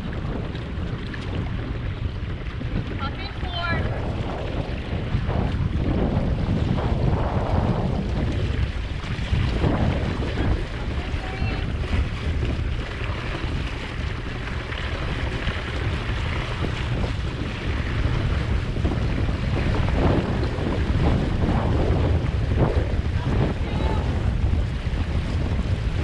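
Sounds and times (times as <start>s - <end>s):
water splashing along hull: 0.0s - 26.0s
wind buffeting microphone: 0.0s - 26.0s.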